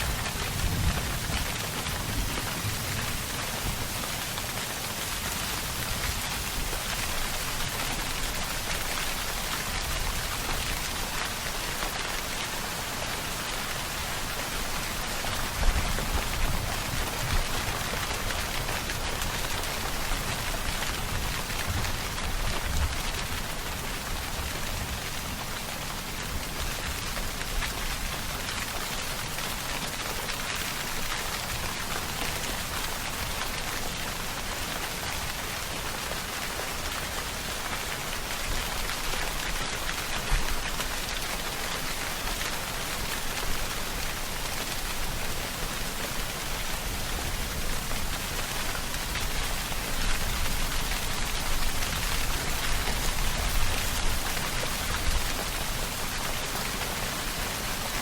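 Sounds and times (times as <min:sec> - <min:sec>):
heavy rainfall hiss: 0:00.0 - 0:58.0.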